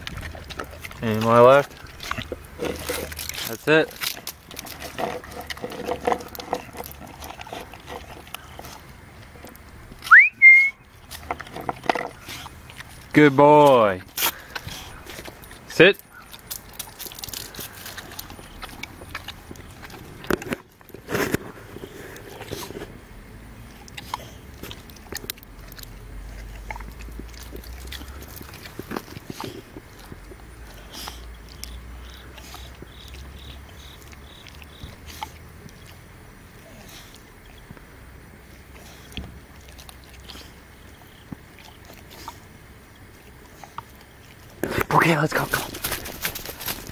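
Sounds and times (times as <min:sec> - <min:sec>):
dog lapping from plastic bowl: 0:00.0 - 0:10.0, 0:10.9 - 0:23.0, 0:23.6 - 0:37.3, 0:38.4 - 0:46.9.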